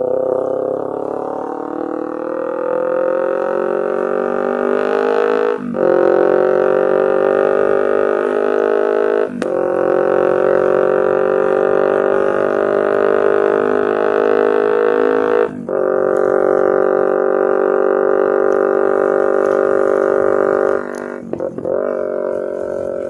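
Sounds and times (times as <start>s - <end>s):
motorcycle engine droning: 0.0s - 23.0s.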